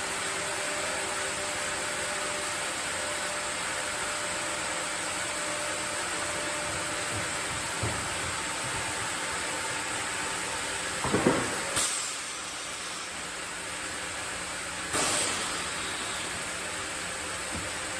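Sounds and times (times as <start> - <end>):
sawmill machinery hissing: 0.0 - 17.9.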